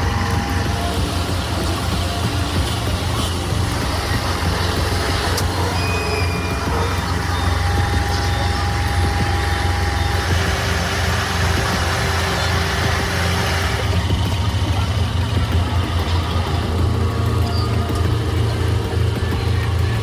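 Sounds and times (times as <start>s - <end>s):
heavy truck engine droning: 0.0s - 20.0s.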